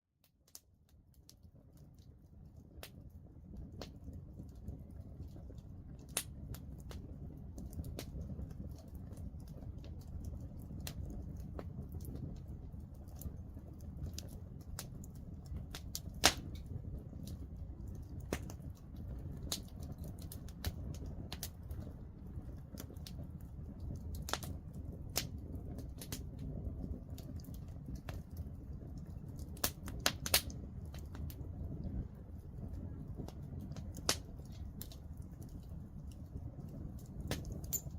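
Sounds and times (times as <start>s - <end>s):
wood fire crackling and popping: 0.2s - 37.9s.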